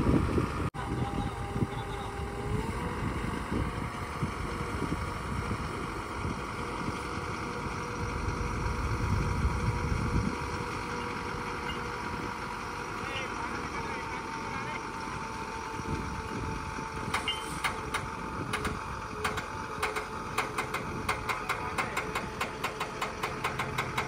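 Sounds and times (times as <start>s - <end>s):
drilling rig machinery drone: 0.0s - 24.0s.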